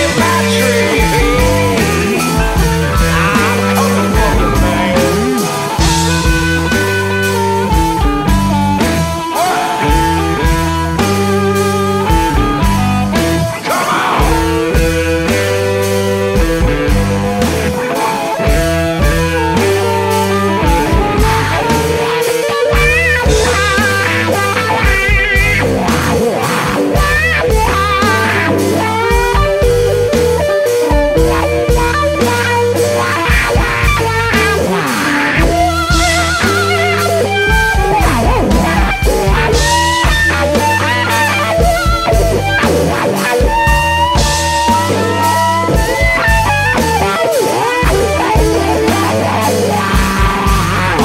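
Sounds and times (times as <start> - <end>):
electric blues band: 0.0 - 51.0
lead guitar bent notes: 0.0 - 51.0.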